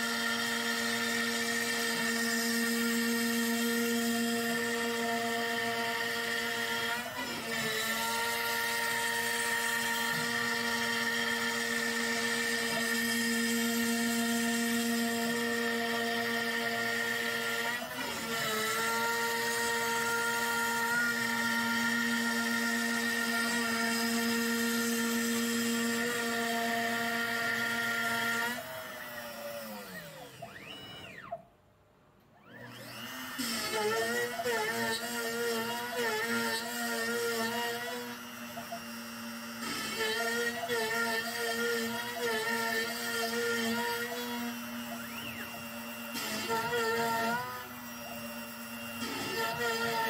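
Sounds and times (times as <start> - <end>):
cnc router spindle whining: 0.0 - 31.4, 32.4 - 50.0
end mill cutting wood: 0.0 - 31.4, 32.4 - 50.0.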